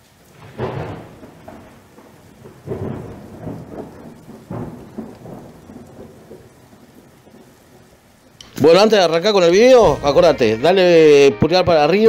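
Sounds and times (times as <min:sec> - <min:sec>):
rolling thunder: 0:00.0 - 0:10.8
steady rain: 0:00.0 - 0:12.0.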